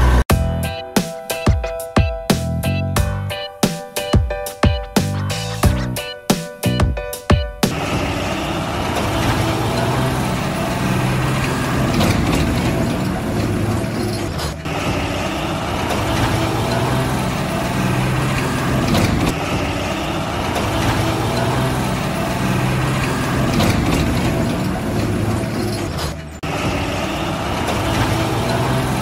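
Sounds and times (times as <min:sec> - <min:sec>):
heavy truck engine humming: 0:00.0 - 0:00.8, 0:04.4 - 0:29.0.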